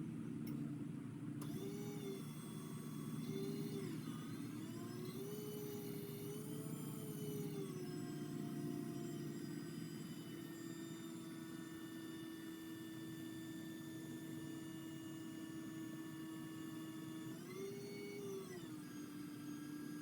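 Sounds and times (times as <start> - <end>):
electric motor whining: 1.4 - 20.0.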